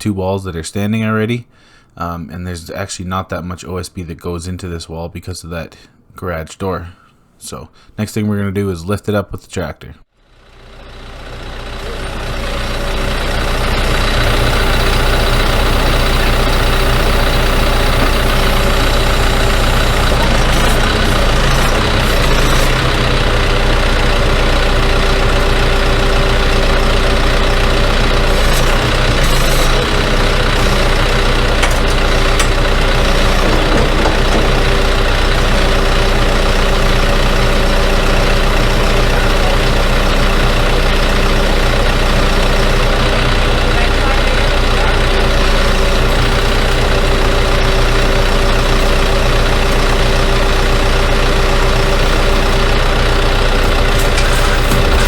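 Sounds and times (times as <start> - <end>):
tractor engine running: 10.1 - 55.0.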